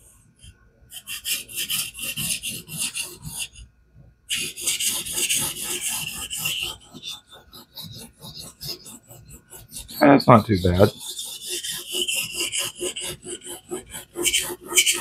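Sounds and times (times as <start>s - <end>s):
knife scraping on whetstone: 0.9s - 3.6s, 4.3s - 15.0s.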